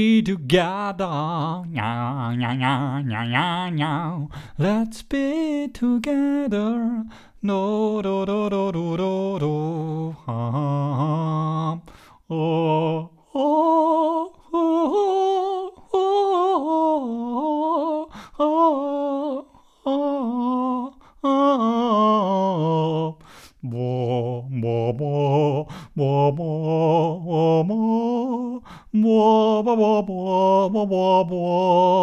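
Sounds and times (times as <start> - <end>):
person singing wordless melody: 0.0 - 32.0.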